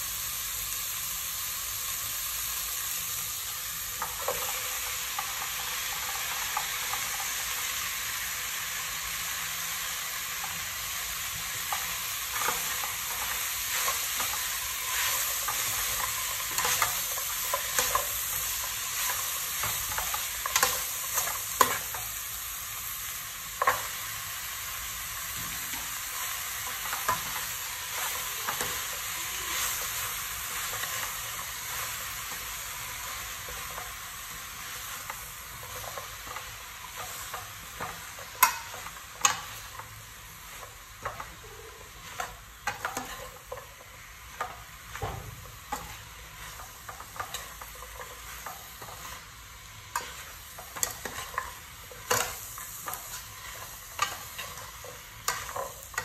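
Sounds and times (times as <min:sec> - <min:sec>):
vegetables sizzling in a pot: 0:00.0 - 0:56.0.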